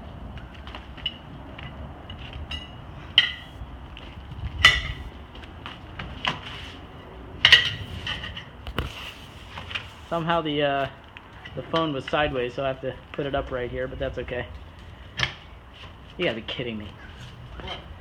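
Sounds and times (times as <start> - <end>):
metal tools clanking on wheel rim: 1.0 - 3.7, 4.5 - 5.2, 6.2 - 8.9, 9.6 - 18.0.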